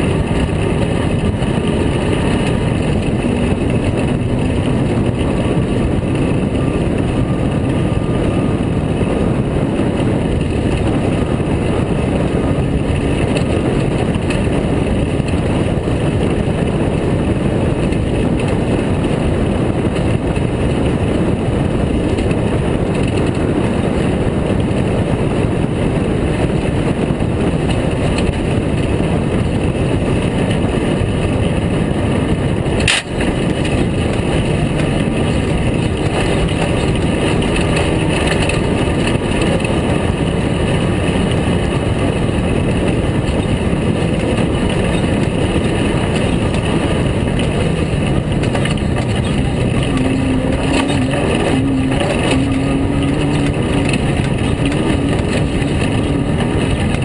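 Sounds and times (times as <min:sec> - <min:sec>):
car engine roaring: 0:00.0 - 0:57.0
wind and road noise: 0:00.0 - 0:57.0.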